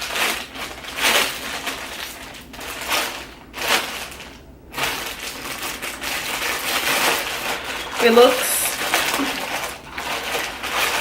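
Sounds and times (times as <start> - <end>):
packaging bag crinkling: 0.0 - 11.0.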